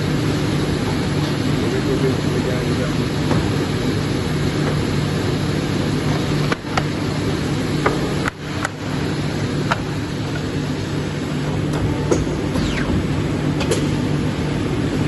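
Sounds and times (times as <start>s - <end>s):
paper cutter mechanical hum: 0.0s - 15.0s.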